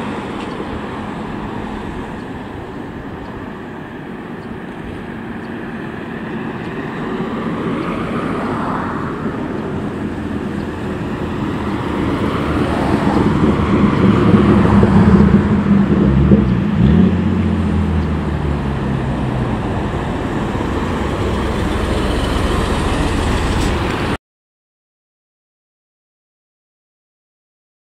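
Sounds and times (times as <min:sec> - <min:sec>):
heavy vehicle engine passing: 0:00.0 - 0:24.2
traffic rumble: 0:00.0 - 0:24.2.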